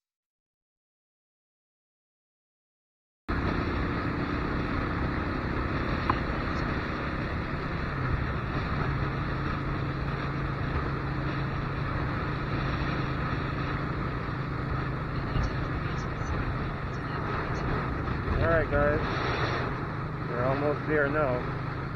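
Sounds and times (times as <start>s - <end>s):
motorcycle cruising: 3.3s - 21.9s.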